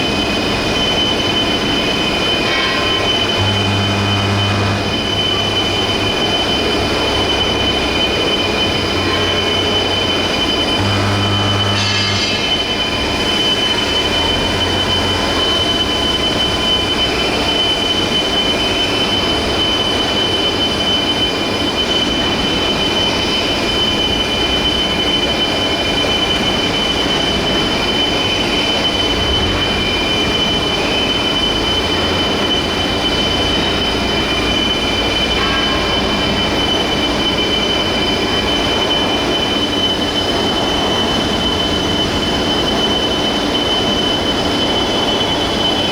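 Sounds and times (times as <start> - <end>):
industrial machinery with metallic whine: 0.0 - 45.9.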